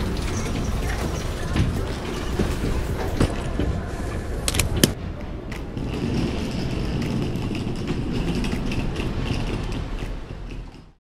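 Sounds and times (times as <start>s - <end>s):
suitcase wheels rolling on tiles: 0.0s - 11.0s.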